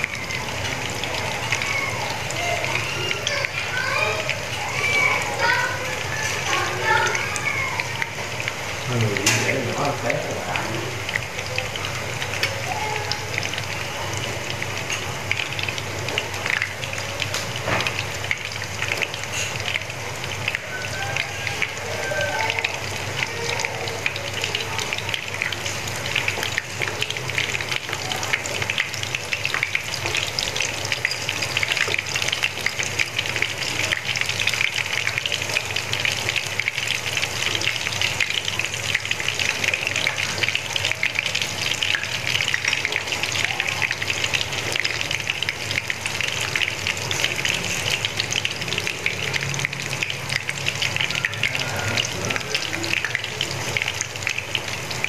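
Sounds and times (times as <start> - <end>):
fritters frying in hot oil: 0.0 - 55.0.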